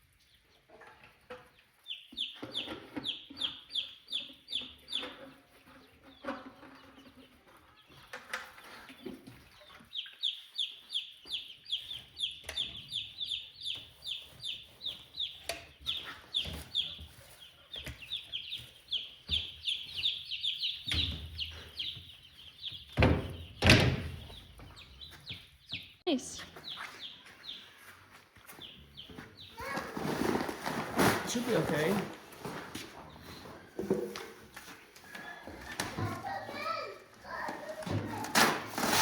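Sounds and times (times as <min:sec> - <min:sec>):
chicks peeping: 0:00.0 - 0:38.3.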